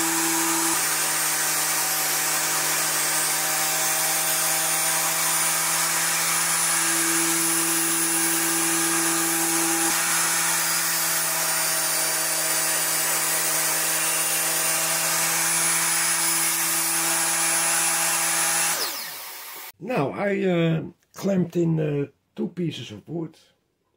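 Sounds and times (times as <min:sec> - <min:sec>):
power tool motor humming: 0:00.0 - 0:19.8.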